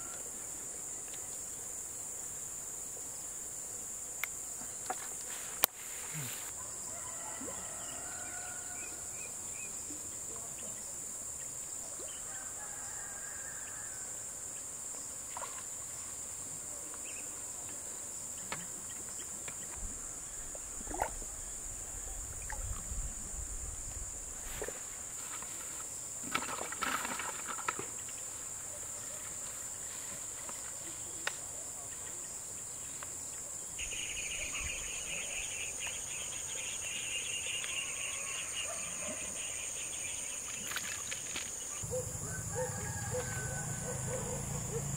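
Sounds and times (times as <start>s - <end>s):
crickets shrilling: 0.0s - 10.2s, 10.8s - 31.6s, 32.2s - 44.9s
low insect trill: 0.0s - 44.9s.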